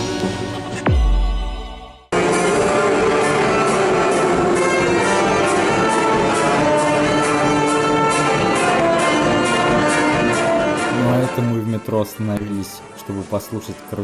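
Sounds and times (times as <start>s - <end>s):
brass music over steady beat: 0.0s - 14.0s.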